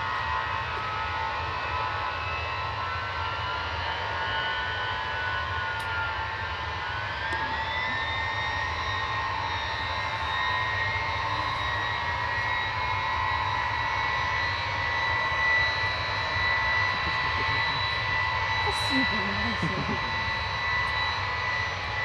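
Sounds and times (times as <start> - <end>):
jet engines roaring and whining: 0.0 - 22.0.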